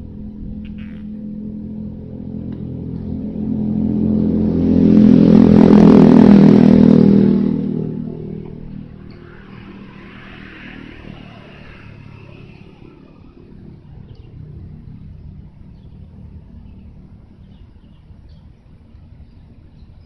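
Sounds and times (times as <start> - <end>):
vehicle passing by: 0.0 - 18.2
steady low rumble: 0.0 - 20.0.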